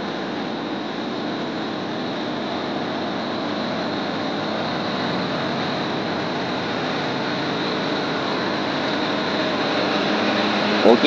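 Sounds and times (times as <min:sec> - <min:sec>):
air-conditioning blowers rushing: 0:00.0 - 0:11.0.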